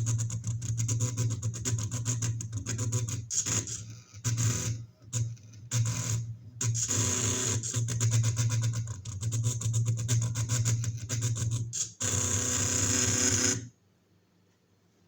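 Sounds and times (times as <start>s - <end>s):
stepper motors buzzing and clicking: 0.0s - 13.7s.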